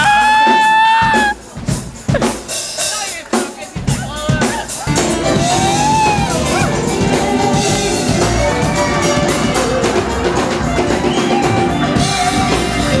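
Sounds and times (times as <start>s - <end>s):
loud music with drum kit: 0.0s - 13.0s.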